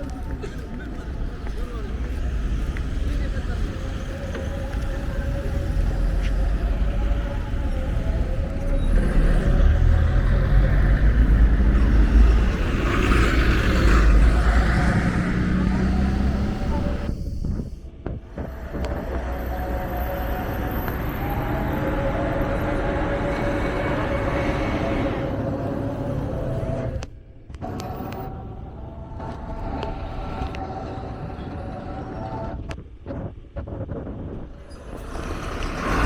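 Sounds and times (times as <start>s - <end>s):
traffic hum: 0.0s - 36.0s
vehicle engine rumbling: 0.0s - 36.0s.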